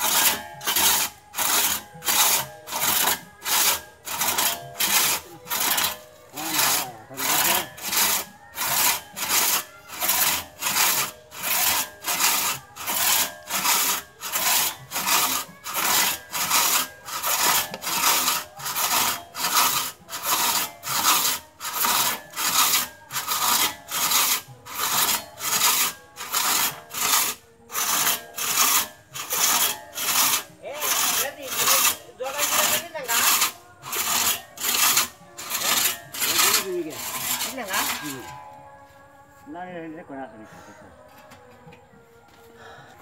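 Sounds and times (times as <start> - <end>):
crosscut saw rasping through wood: 0.0 - 38.4.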